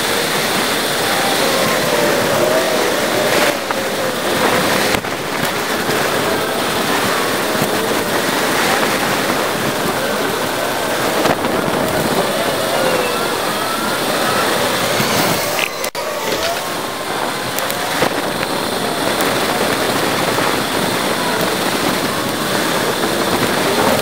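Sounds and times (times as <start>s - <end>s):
sped-up wind and road hiss: 0.0s - 24.0s.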